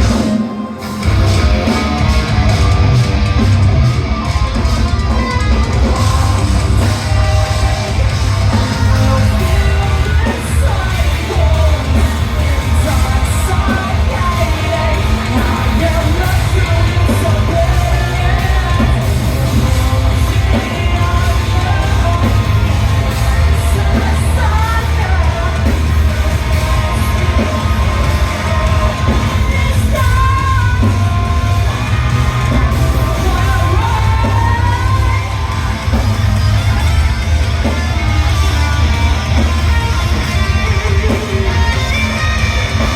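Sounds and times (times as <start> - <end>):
electric guitar: 0.0 - 42.9
live rock band playing: 0.0 - 42.9.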